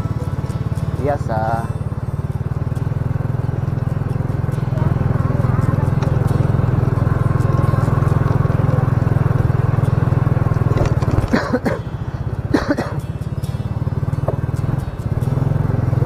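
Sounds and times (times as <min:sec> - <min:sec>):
motor scooter engine: 0:00.0 - 0:16.0.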